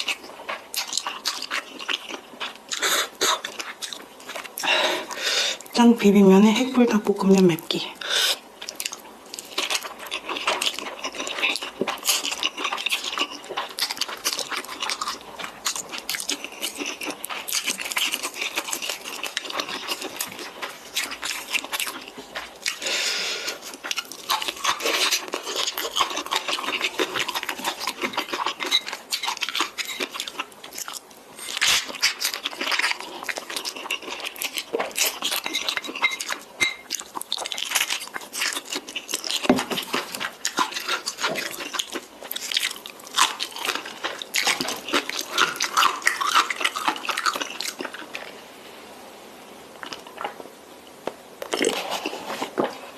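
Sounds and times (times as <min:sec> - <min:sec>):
person chewing noodles: 0:00.0 - 0:05.8, 0:08.0 - 0:48.4.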